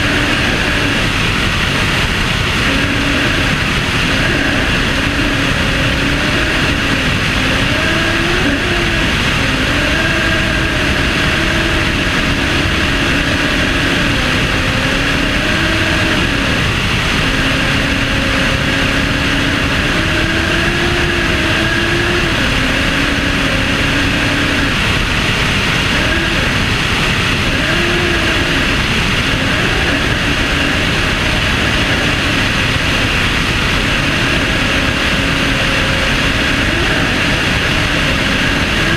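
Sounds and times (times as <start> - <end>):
aircraft propeller engine droning: 0.0 - 38.9
heavy wind rush: 0.0 - 38.9.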